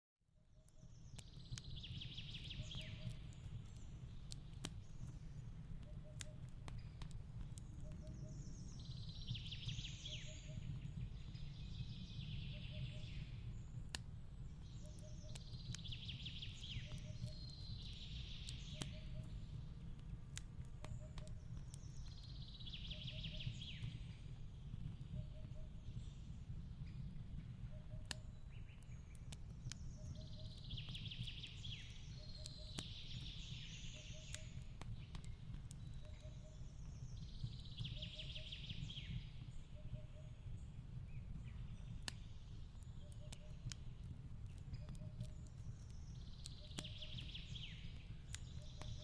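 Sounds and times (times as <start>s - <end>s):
wood fire crackling and popping: 0.6s - 49.0s.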